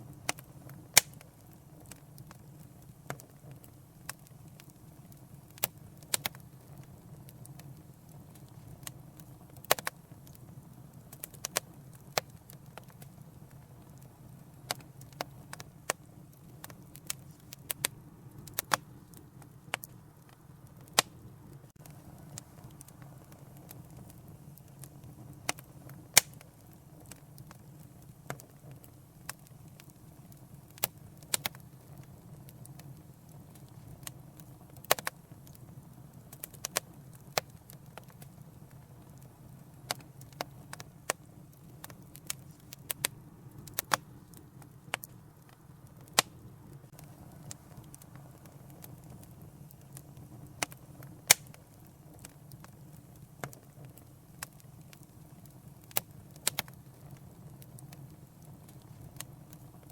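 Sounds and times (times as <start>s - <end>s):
fireplace fire crackling and popping: 0.0s - 59.9s.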